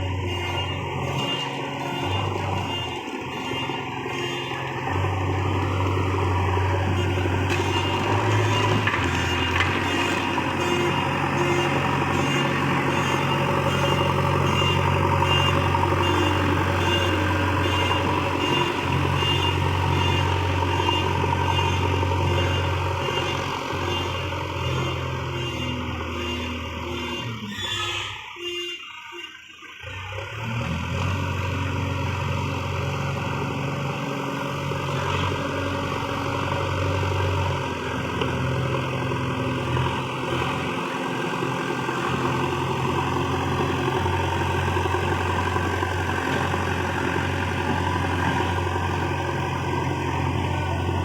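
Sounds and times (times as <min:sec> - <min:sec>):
earthmoving machinery diesel engine: 0:00.0 - 0:51.0.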